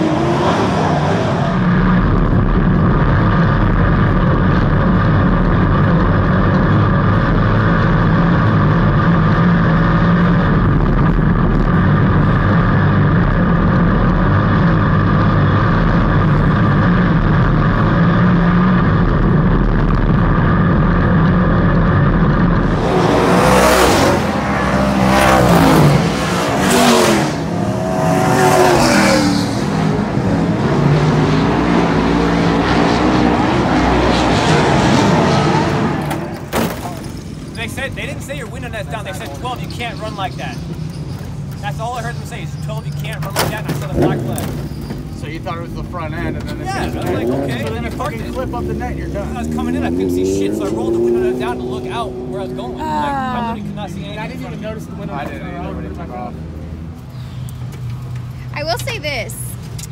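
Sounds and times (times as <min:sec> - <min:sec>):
cars passing by: 0:00.0 - 0:59.9
race car engines: 0:00.0 - 0:59.9.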